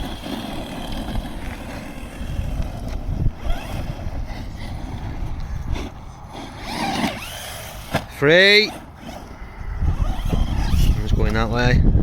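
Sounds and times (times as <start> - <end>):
electric motor whining: 0.0 - 11.5
wind buffeting microphone: 0.0 - 12.0.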